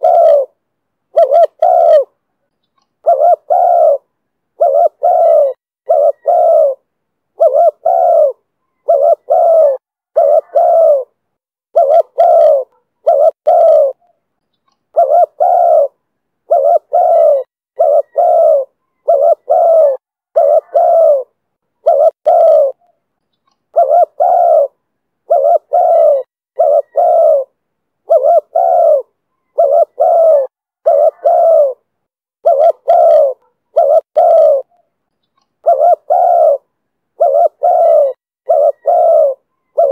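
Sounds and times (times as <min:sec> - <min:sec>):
dove cooing: 0:00.0 - 0:02.2, 0:03.0 - 0:14.2, 0:14.9 - 0:22.9, 0:23.7 - 0:34.8, 0:35.6 - 0:39.9.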